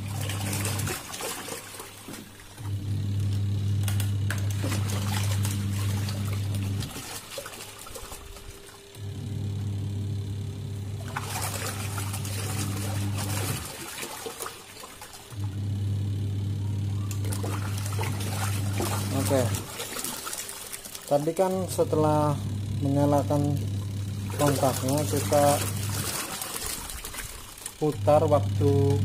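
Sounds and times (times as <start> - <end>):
washing machine motor humming: 0.0 - 29.0
water sloshing in tub: 0.0 - 29.0.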